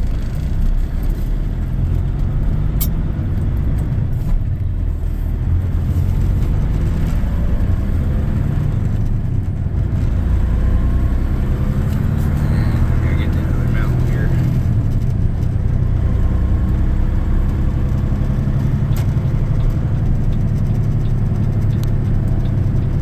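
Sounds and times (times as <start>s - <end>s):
diesel truck engine under load: 0.0s - 23.0s.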